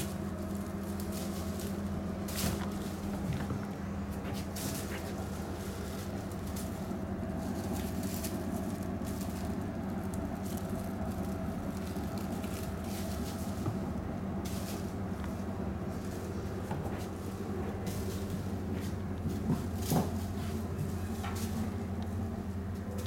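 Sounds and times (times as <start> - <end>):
kitten paws pattering on wood: 0.0 - 22.8
light rustles: 0.0 - 23.0
steady low hum: 0.0 - 23.0.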